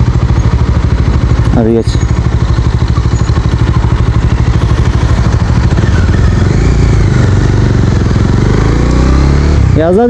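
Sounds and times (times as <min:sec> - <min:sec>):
motorcycle engine: 0:00.0 - 0:10.0.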